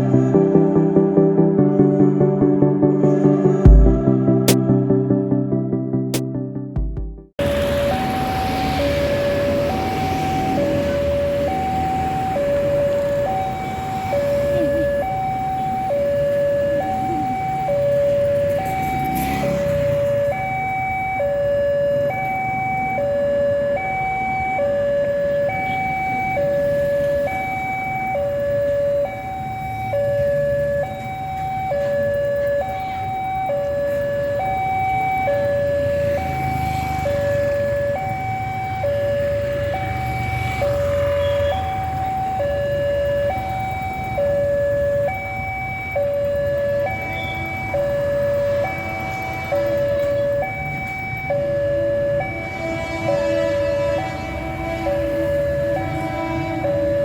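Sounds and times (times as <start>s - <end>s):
low road traffic rumble: 7.4s - 57.0s
two-tone crossing alarm: 7.4s - 57.0s.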